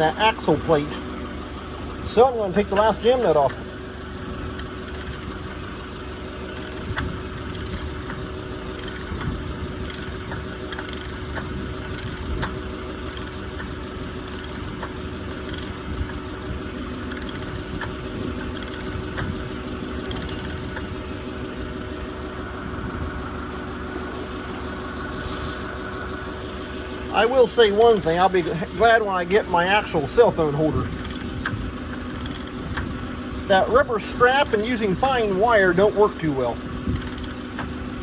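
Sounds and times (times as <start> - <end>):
forklift engine idling: 0.0 - 38.0.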